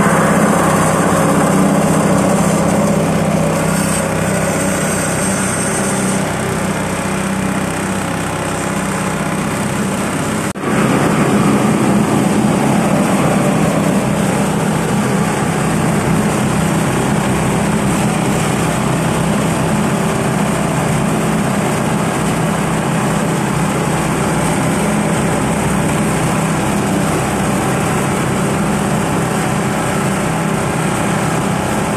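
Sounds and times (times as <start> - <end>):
grinding mill: 0.0 - 31.9.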